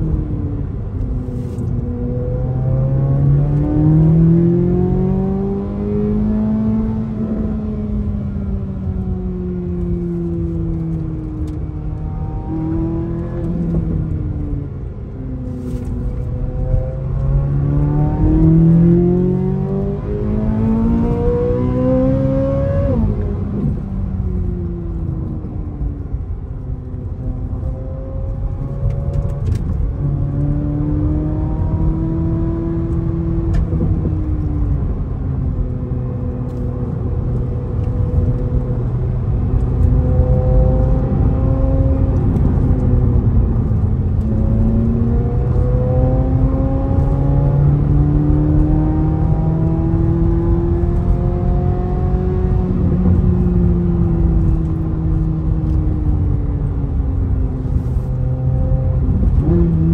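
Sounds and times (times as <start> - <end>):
car engine accelerating: 0.0 - 59.9
low road rumble: 0.0 - 59.9.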